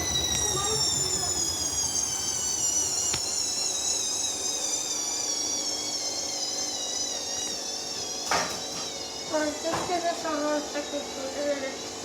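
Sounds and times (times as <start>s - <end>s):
washing machine motor whining: 0.0s - 12.0s.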